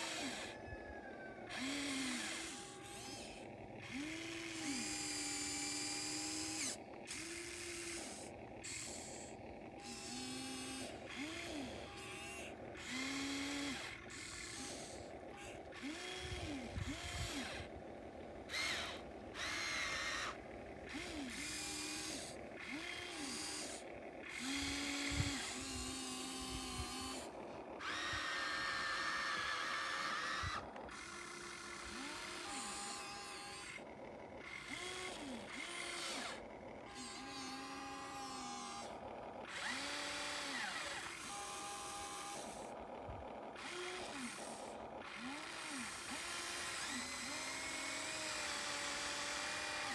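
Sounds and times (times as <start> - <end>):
small electric motors whining: 0.0 - 49.9.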